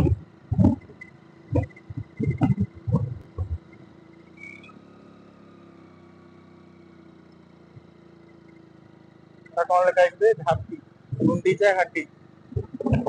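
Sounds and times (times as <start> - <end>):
motorcycle engine humming: 0.0 - 13.0.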